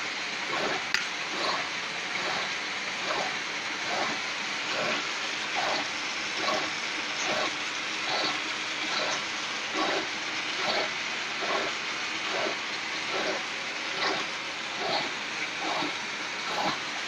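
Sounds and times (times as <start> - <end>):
hydraulic boring machine hissing: 0.0 - 17.0.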